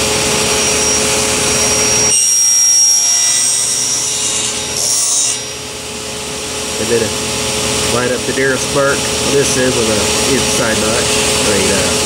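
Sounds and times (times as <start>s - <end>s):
high whine: 0.0s - 12.0s
table saw cutting wood: 0.0s - 12.0s.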